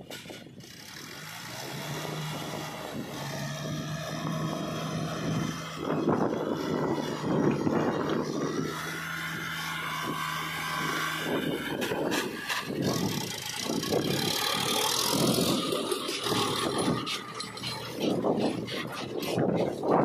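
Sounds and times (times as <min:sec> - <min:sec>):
tractor diesel engine running: 0:00.6 - 0:20.0.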